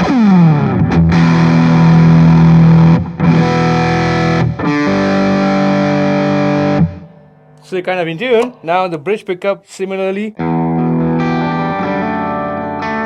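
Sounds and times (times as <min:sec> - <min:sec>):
overdriven electric guitar chords: 0:00.0 - 0:09.4, 0:10.4 - 0:13.0.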